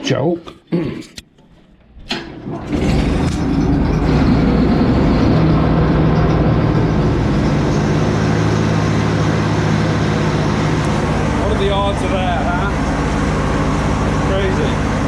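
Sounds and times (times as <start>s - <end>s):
tractor engine starting and running: 2.0s - 15.0s.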